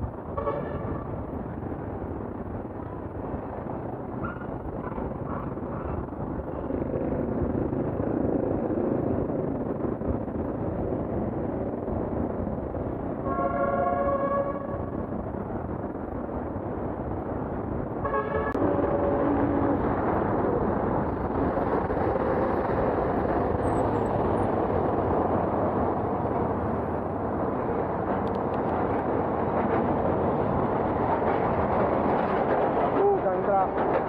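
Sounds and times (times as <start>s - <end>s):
city traffic noise: 0.0s - 34.0s.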